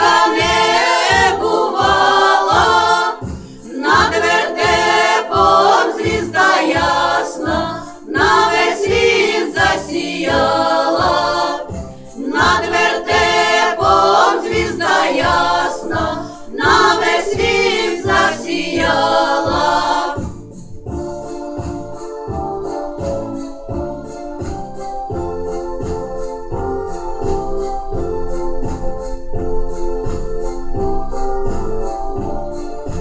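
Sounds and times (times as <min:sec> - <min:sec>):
accompaniment with steady beat: 0:00.0 - 0:33.0
choir singing a carol: 0:00.0 - 0:33.0.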